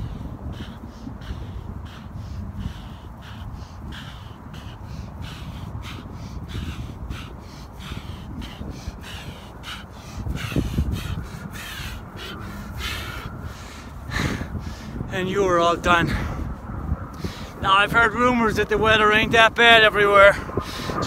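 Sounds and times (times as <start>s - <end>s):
man panting: 0.0s - 17.9s, 20.1s - 21.0s
wind rumble on microphone: 0.0s - 21.0s.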